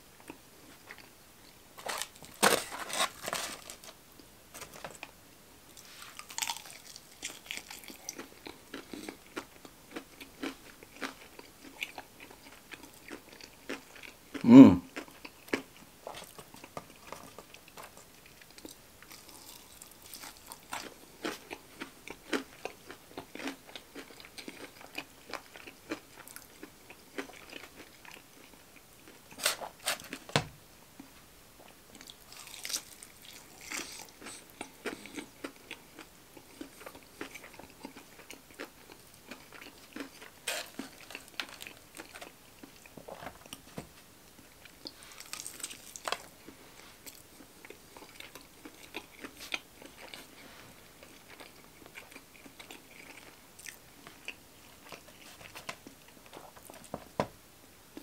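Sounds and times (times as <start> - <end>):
chewing crunchy fried chicken: 4.6 - 30.3, 31.6 - 43.7, 44.3 - 56.9.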